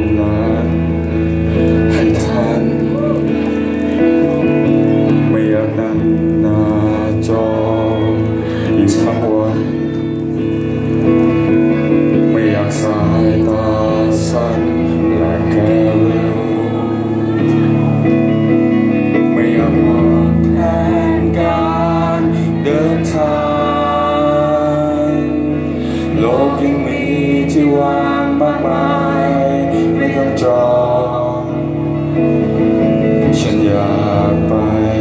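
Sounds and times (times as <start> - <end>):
guitar: 0.0 - 35.0
man singing: 0.0 - 35.0
sustained bass notes: 0.0 - 35.0.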